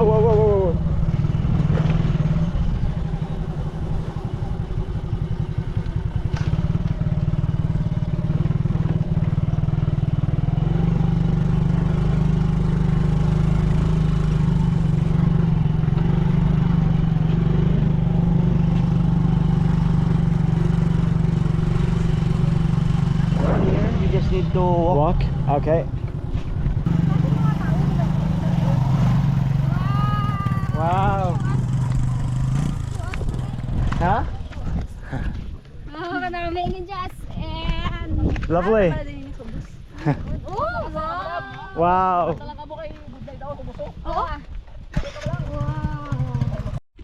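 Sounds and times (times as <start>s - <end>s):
motorcycle engine running: 0.0s - 40.5s, 41.8s - 47.0s.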